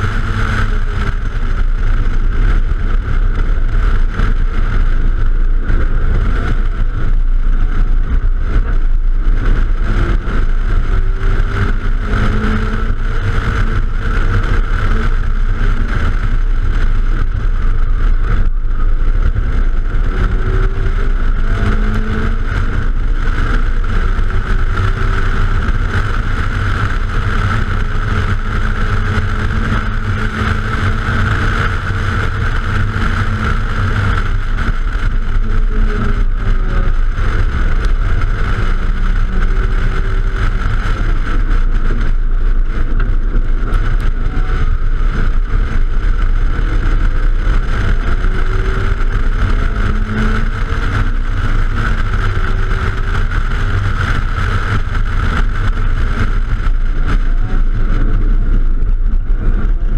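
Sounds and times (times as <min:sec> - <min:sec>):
car engine revving through gears: 0:00.0 - 0:59.9
wind noise: 0:00.0 - 0:59.9.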